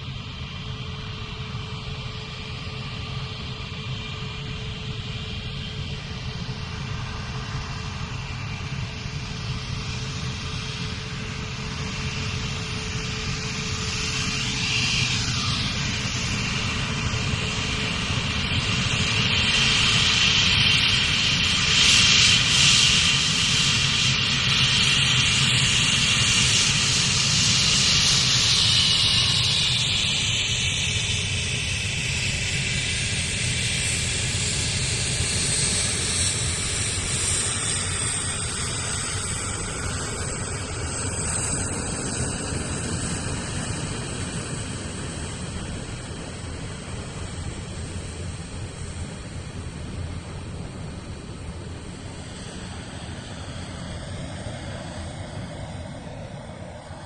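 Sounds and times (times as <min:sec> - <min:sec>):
jet aircraft roaring past: 0:00.0 - 0:57.0.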